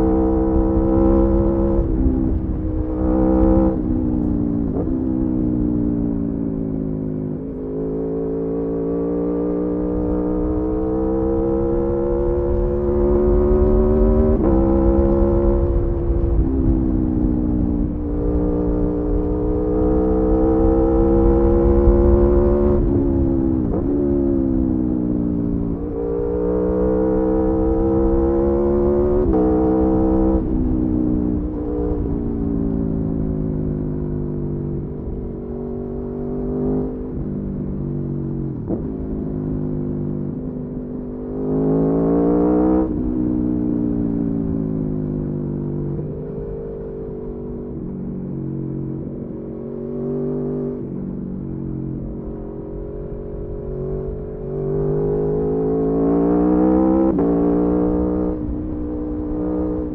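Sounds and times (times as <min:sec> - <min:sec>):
wind noise rumble: 0:00.0 - 0:07.7, 0:09.8 - 0:49.8, 0:50.6 - 0:59.9
motorcycle engine revving: 0:00.0 - 0:59.9.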